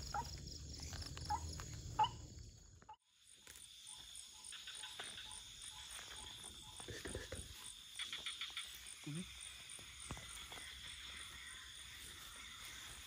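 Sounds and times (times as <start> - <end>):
crickets and insects chirping: 0.0 - 13.0.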